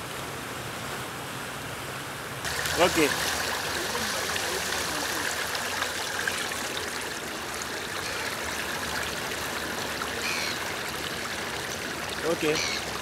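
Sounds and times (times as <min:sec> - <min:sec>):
seawater washing over pebbles: 0:02.4 - 0:13.0.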